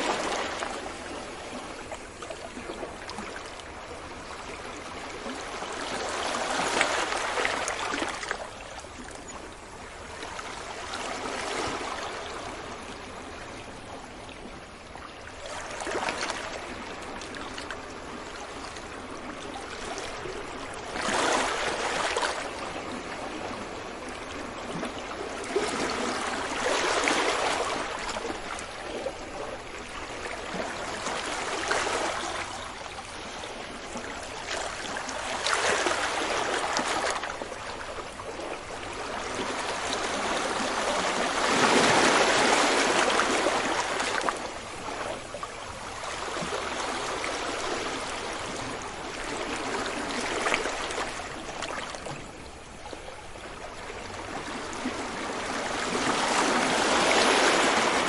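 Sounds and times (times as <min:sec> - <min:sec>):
sea waves breaking on beach: 0:00.0 - 0:13.5, 0:15.3 - 0:58.0.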